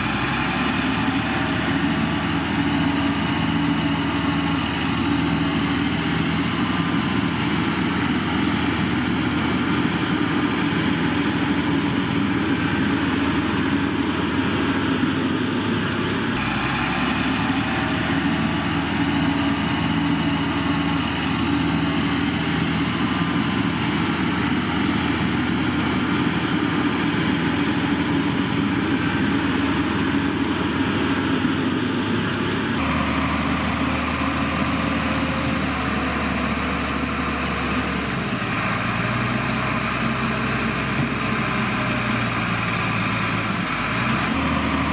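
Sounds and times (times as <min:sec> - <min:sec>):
heavy machine diesel engines: 0:00.0 - 0:44.9.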